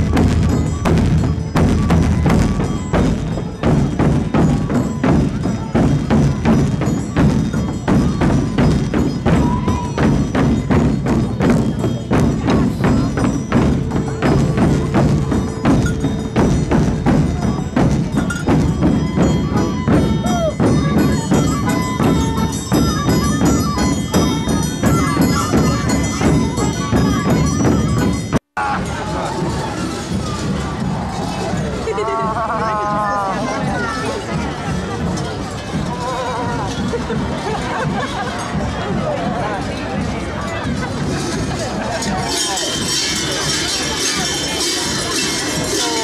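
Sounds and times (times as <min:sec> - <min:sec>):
bells clanging: 0:00.0 - 0:46.0.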